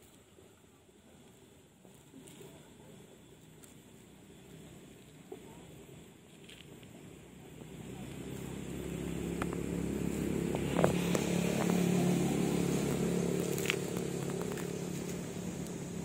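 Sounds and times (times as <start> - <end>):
vehicle engine running: 0.4 - 16.0.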